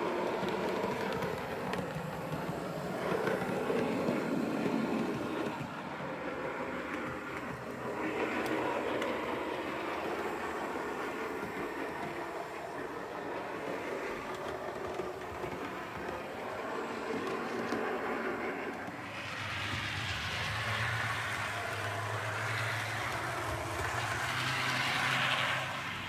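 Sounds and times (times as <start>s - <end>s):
model locomotive running on track: 0.0s - 26.0s.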